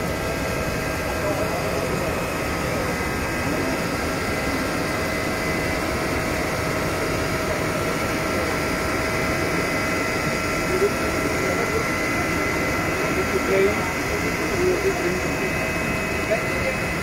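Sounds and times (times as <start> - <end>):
printer mechanical hum: 0.0 - 17.0.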